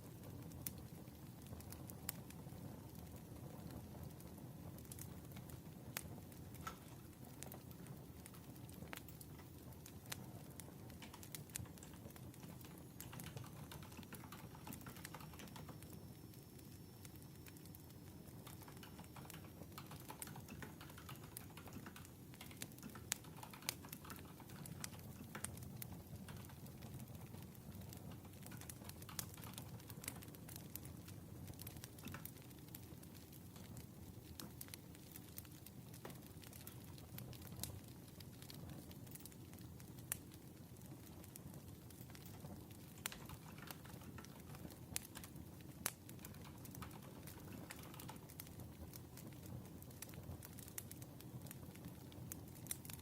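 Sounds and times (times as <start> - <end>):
campfire crackles: 0.0 - 53.0.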